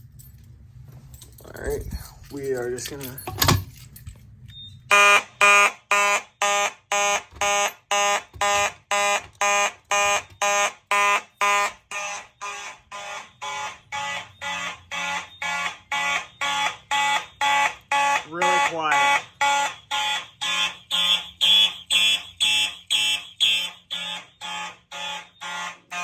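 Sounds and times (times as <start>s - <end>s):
fire alarm horns pulsing: 4.6s - 26.0s.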